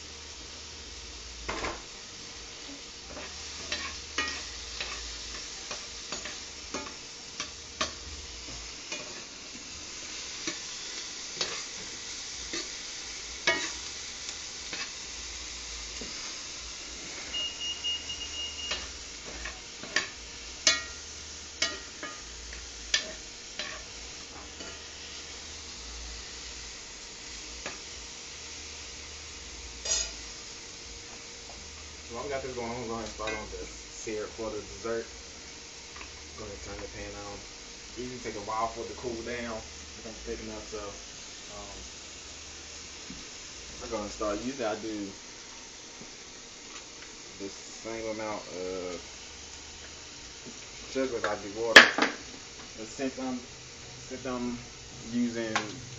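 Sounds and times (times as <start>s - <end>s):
chicken sizzling in a pan: 0.0s - 55.9s.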